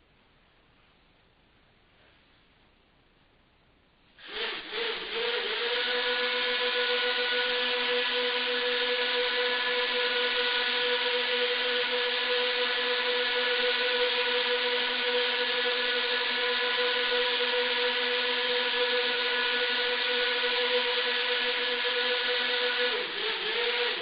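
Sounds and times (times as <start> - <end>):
motor-driven machine humming: 4.2 - 24.0.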